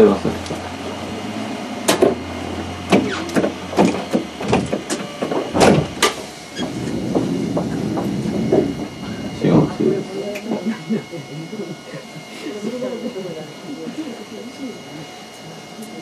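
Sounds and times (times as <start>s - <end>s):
tram humming: 0.0s - 16.0s.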